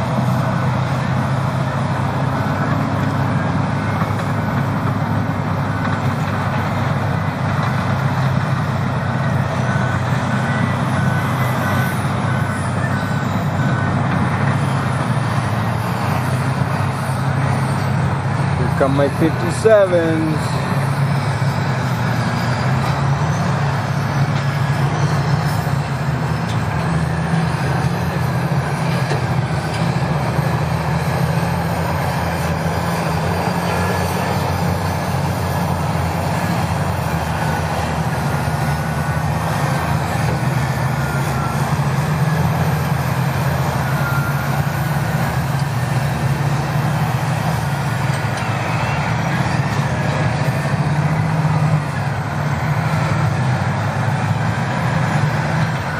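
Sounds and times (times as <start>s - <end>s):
heavy diesel machines droning: 0.0s - 55.9s.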